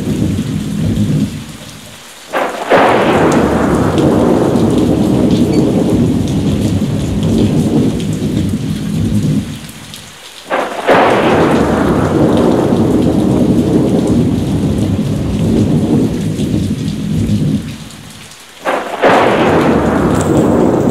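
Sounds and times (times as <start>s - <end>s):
heavy rain: 0.0s - 20.9s
thunderclaps with low rumble: 0.0s - 20.9s.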